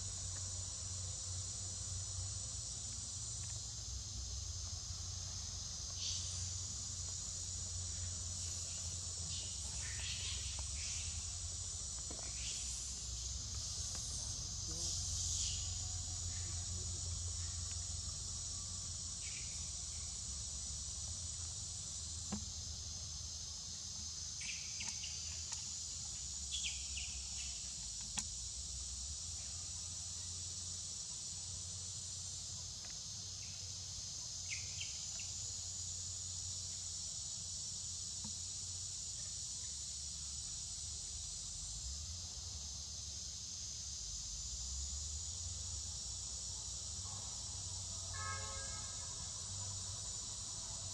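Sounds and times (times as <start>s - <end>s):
insects shrilling: 0.2s - 41.7s.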